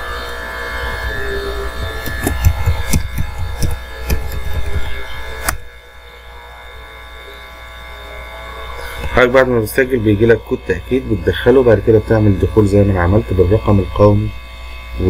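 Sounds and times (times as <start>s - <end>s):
droning background music: 0.0s - 15.0s
low electrical hum: 0.0s - 15.0s.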